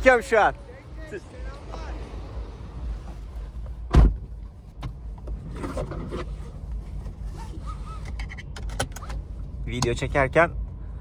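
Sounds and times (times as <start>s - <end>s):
car cabin rumble: 0.0s - 10.8s.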